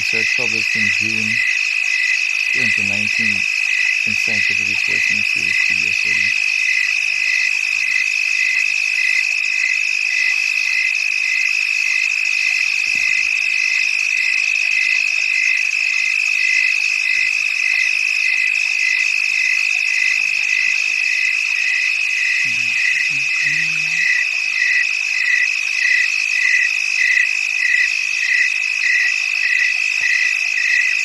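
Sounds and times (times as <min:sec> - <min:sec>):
frogs calling: 0:00.0 - 0:31.0.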